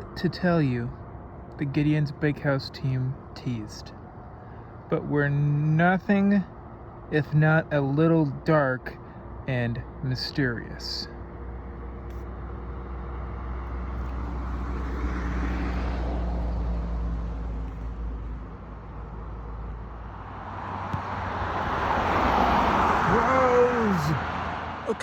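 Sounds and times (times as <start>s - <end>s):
low engine hum of traffic: 0.0s - 25.0s
vehicles passing: 0.0s - 25.0s.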